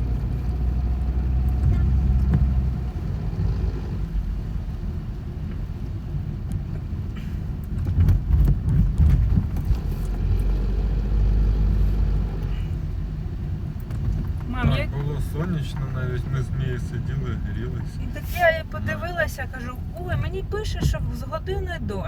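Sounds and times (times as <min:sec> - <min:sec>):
car interior rumble: 0:00.0 - 0:22.0.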